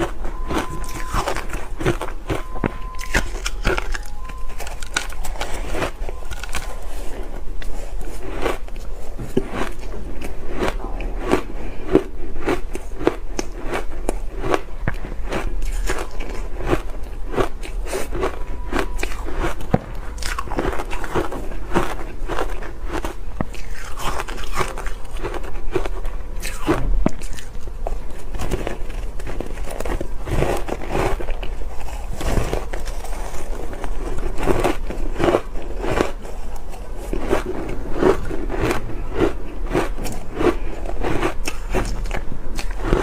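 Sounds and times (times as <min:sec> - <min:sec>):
ice crunching while chewing: 0:00.0 - 0:43.0.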